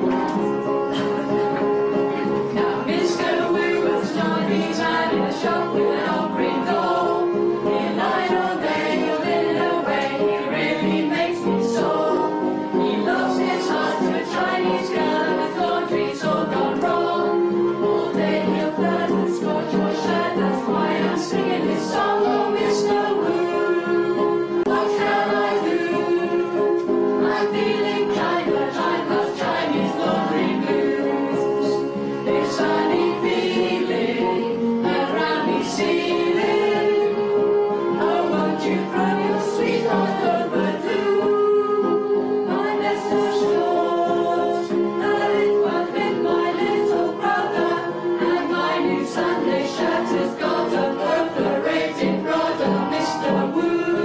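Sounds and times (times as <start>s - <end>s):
group singing in chorus: 0.0s - 54.0s
musical accompaniment: 0.0s - 54.0s.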